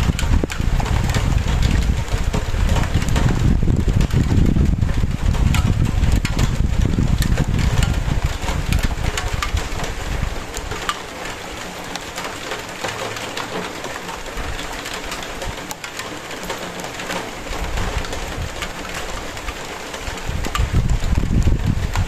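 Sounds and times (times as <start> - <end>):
rain hissing: 0.0 - 22.0
raindrop taps: 0.0 - 22.0.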